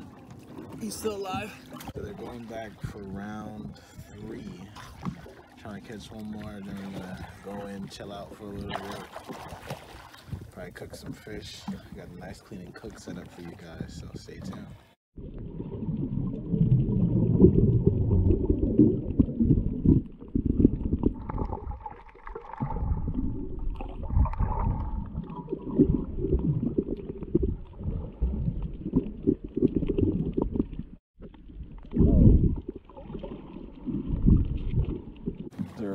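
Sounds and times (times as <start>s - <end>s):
muffled underwater rumbling: 0.0s - 35.9s.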